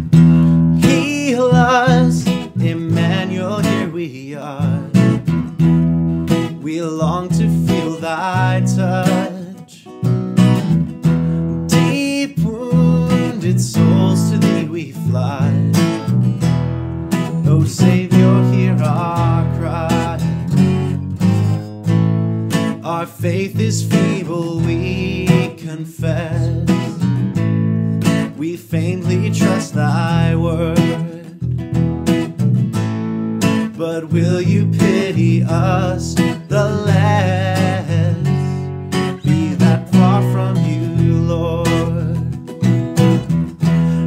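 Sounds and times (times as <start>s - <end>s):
electric bass: 0.0s - 3.9s, 4.8s - 7.8s, 10.0s - 44.0s
strummed acoustic guitars: 0.0s - 44.0s.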